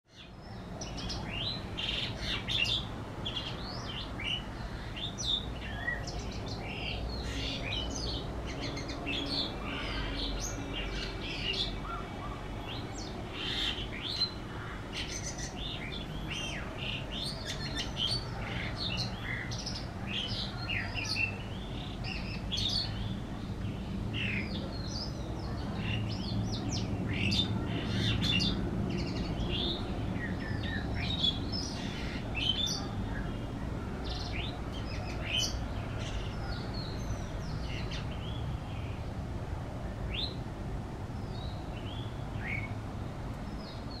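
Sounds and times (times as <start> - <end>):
small birds chirping: 0.1 - 44.0.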